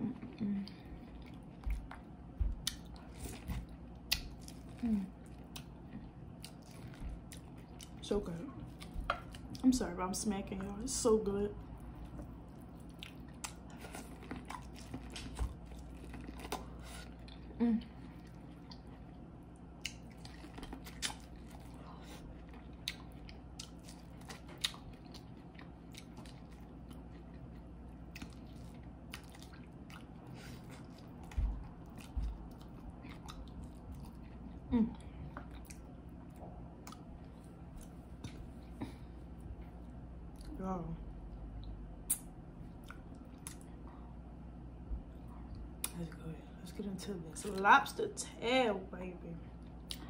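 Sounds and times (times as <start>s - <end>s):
chewing and lip-smacking: 0.2s - 8.0s, 8.6s - 9.6s, 11.6s - 40.6s, 41.3s - 44.0s, 45.1s - 46.1s, 49.5s - 50.0s.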